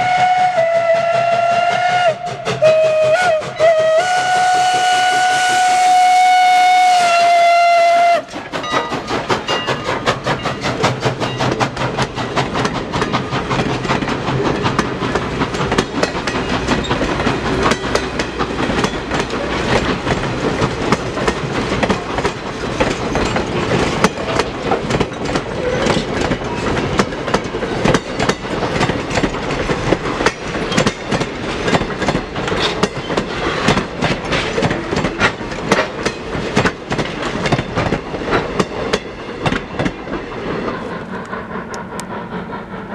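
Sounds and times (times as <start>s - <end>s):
train rumble: 0.0s - 42.9s
train wheels clickety-clack: 0.0s - 42.9s.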